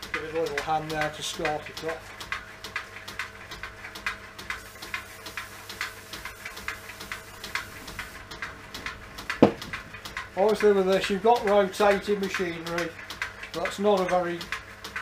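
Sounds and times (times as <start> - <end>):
belt drive ticking: 0.0 - 15.0.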